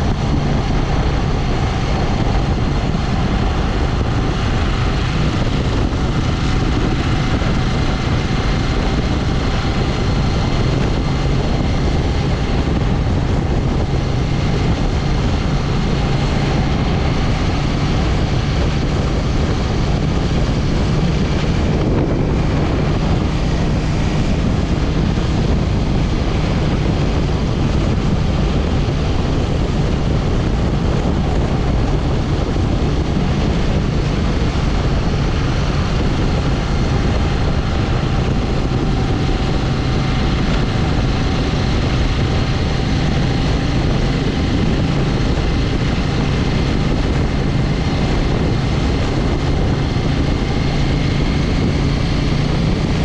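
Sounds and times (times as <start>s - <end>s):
motorcycle engine cruising: 0.0s - 53.0s
wind rush over microphone: 0.0s - 53.0s.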